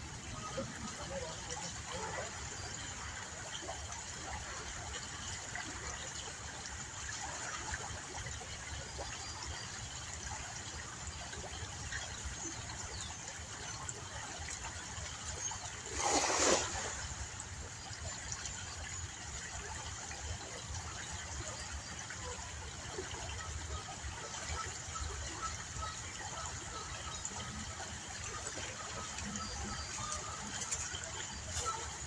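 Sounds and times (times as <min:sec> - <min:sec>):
river water trickling: 0:00.0 - 0:32.0.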